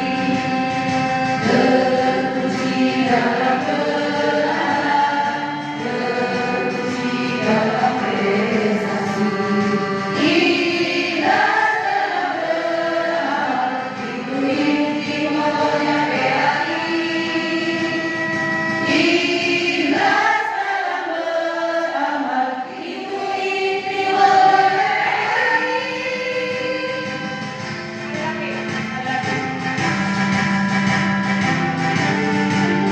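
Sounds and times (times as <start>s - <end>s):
group singing in chorus: 0.0s - 27.7s.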